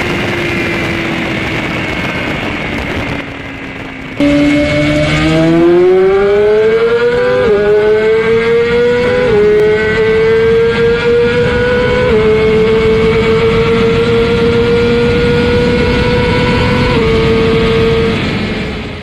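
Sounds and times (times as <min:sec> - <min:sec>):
motorcycle engine accelerating hard: 0:00.0 - 0:19.0
quieter engine slowing down: 0:00.0 - 0:19.0
wind noise: 0:00.0 - 0:19.0.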